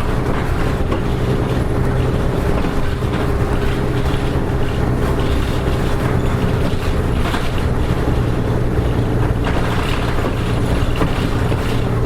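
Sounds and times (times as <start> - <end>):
diesel bus engine hum: 0.0 - 12.0
road and cabin rumble: 0.0 - 12.0.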